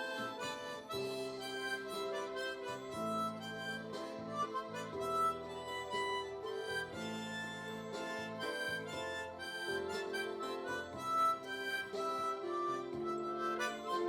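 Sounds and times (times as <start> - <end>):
harmonica melody: 0.0 - 14.0.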